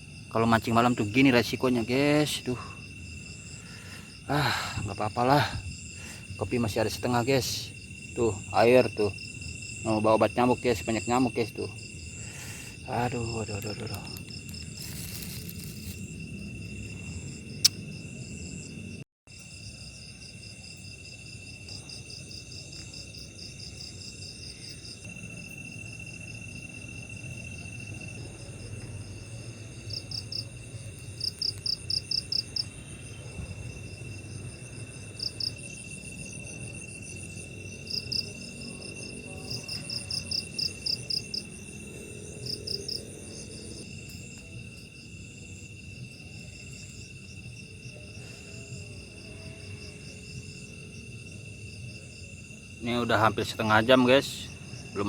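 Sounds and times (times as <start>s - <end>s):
cricket trill: 0.0s - 55.0s
insect chirping pulses: 0.0s - 55.0s.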